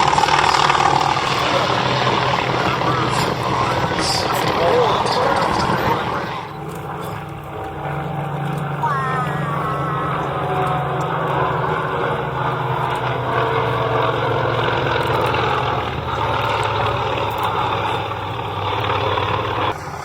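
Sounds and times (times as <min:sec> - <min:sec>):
propeller aircraft engines droning: 0:00.0 - 0:20.0.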